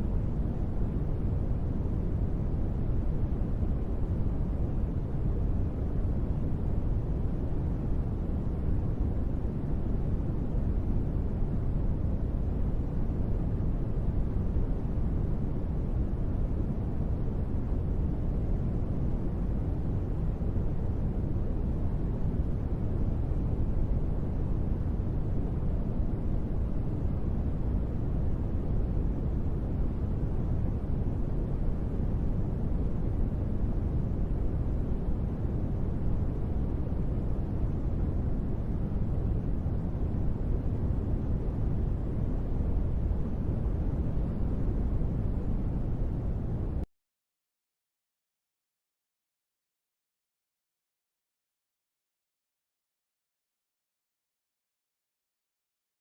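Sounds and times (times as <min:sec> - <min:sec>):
deep white noise hiss: 0:00.0 - 0:46.8.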